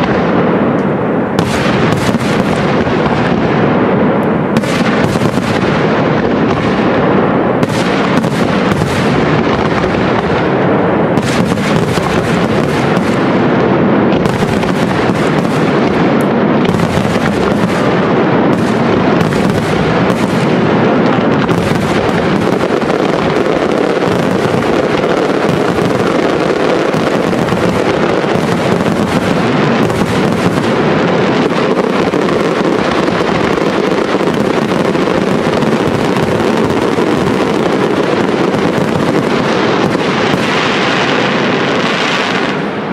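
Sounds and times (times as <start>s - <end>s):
fireworks bursts and crackle: 0.0s - 42.9s
sharp firework bangs: 0.0s - 42.9s.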